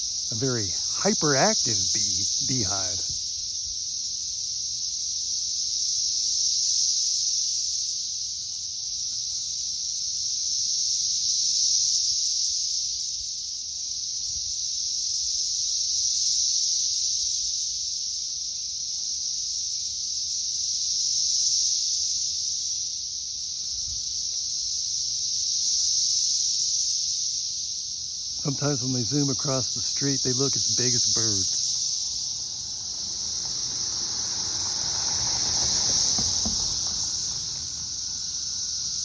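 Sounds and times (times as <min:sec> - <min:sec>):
cicadas droning: 0:00.0 - 0:39.0.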